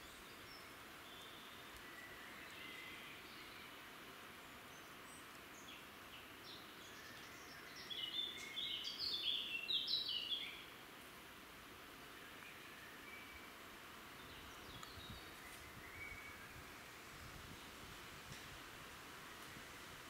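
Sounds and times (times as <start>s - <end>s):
songbird chirping: 0.0s - 18.4s
steady background hiss: 0.0s - 20.0s.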